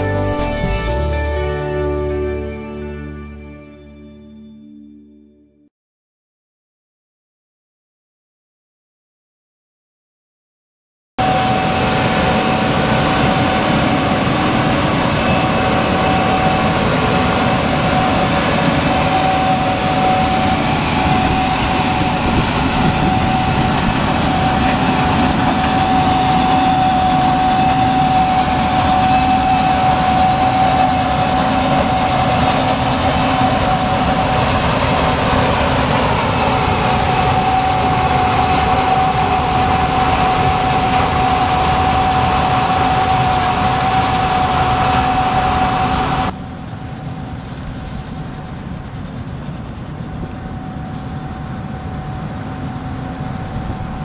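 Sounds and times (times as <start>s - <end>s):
combine harvester running: 0.0s - 4.5s, 11.2s - 54.0s
high whine: 0.0s - 5.5s, 11.2s - 54.0s.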